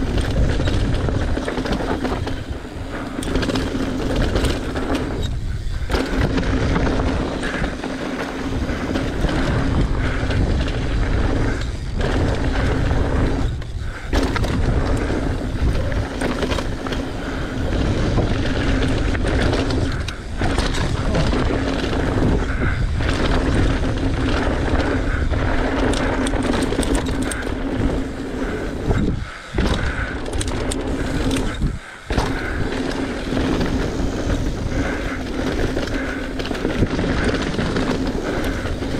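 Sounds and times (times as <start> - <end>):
bike tyres on dirt and gravel: 0.0 - 38.9
wind on microphone: 0.0 - 38.9.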